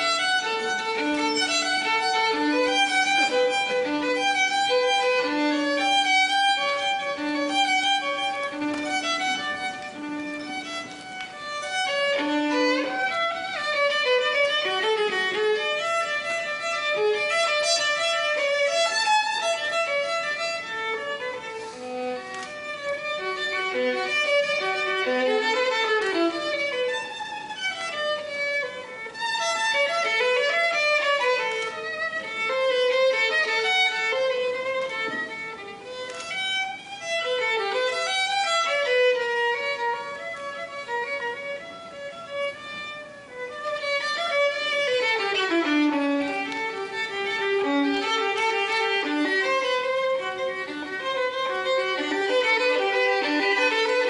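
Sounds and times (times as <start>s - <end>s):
solo violin: 0.0s - 54.0s.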